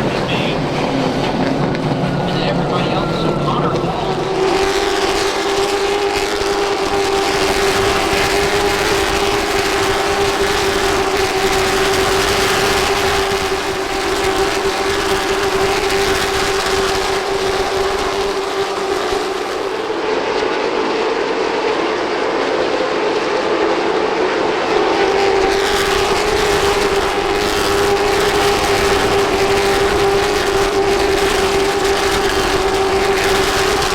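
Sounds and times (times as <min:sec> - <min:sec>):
race car engines drone: 0:00.0 - 0:33.9.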